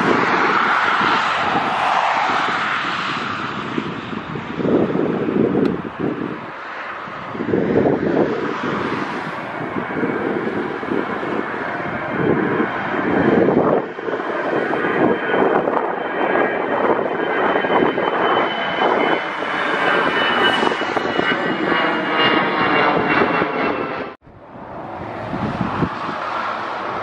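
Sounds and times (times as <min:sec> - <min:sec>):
jet airliners passing overhead: 0:00.0 - 0:27.0
wind buffeting microphone: 0:00.0 - 0:27.0.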